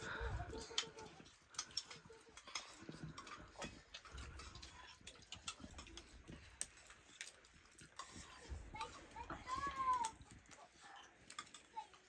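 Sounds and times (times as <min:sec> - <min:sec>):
metal spoons tapping steel bowls: 0:00.0 - 0:12.0.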